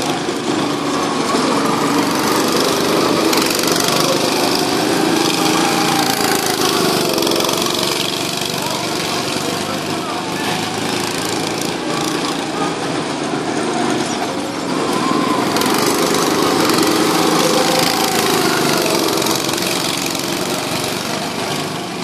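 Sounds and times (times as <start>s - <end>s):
go-kart engines running: 0.0s - 22.0s
kart passing close by: 0.0s - 22.0s.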